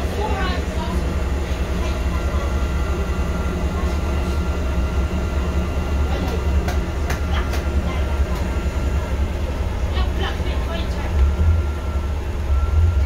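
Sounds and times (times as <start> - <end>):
bus rumble from inside: 0.0 - 13.0.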